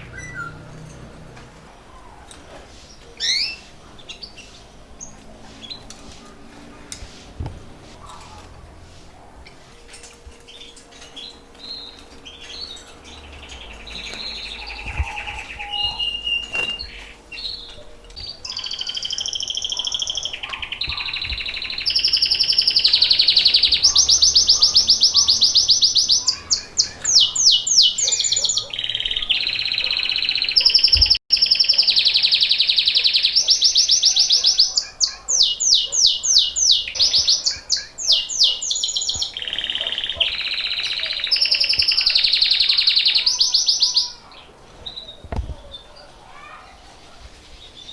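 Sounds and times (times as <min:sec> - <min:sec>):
canaries singing trills: 0:00.0 - 0:47.9.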